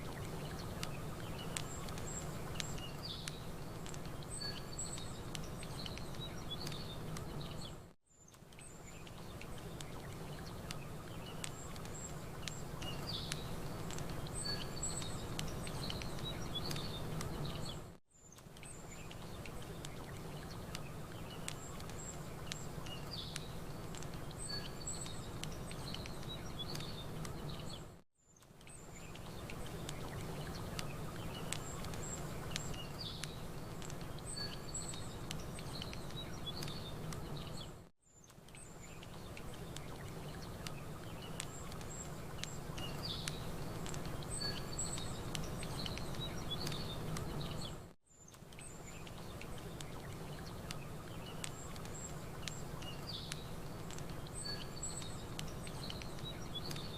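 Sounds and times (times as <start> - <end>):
campfire crackling: 0.0 - 27.9, 28.5 - 56.9
small birds chirping: 0.0 - 56.9.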